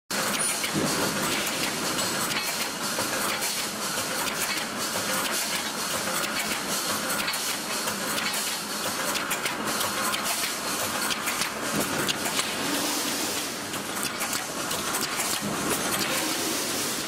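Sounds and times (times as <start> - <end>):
welding machine running: 0.1 - 17.0.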